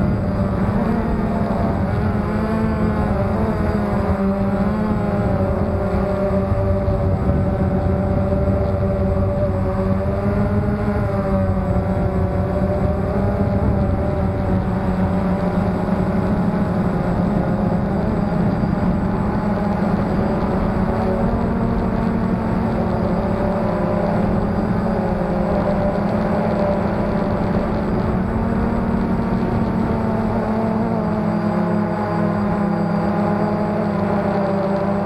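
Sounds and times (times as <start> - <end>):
drone motors humming: 0.0 - 35.0.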